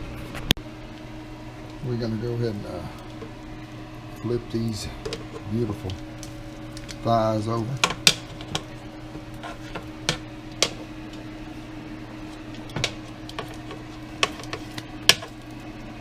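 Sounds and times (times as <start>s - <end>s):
appliance hum: 0.0s - 16.0s.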